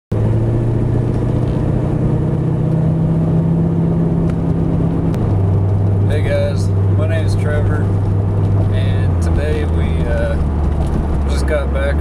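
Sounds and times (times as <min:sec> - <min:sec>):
car engine droning: 0:00.1 - 0:12.0.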